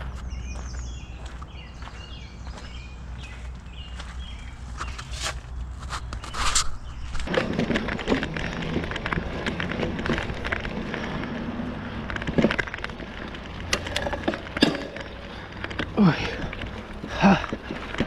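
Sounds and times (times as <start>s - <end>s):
bike tyres crunching over dirt: 0.0s - 18.0s
bike rattling over bumps: 0.3s - 18.0s.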